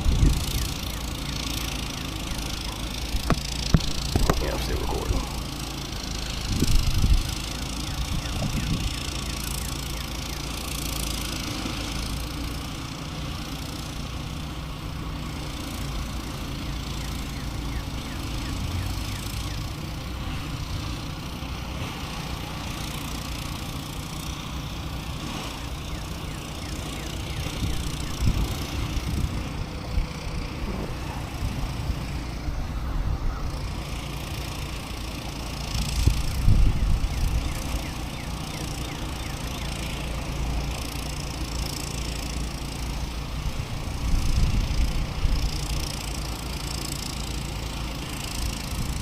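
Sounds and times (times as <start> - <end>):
low engine drone: 0.0 - 49.0.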